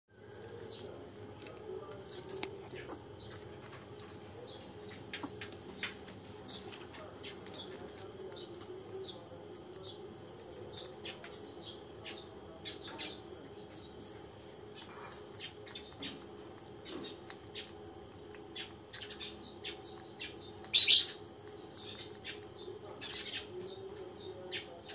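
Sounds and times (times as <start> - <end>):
small birds chirping: 0.2 - 24.9.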